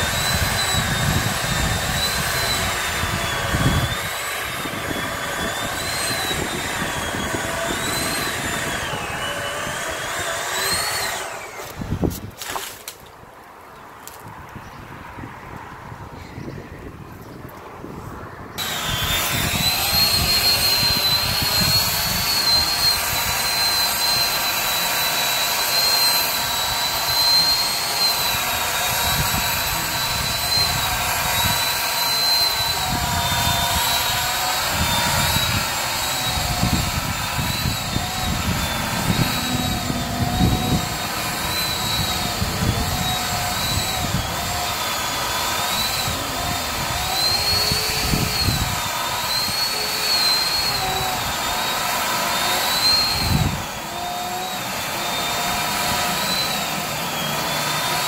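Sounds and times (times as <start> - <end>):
motor whining: 0.0 - 12.2, 18.6 - 58.0.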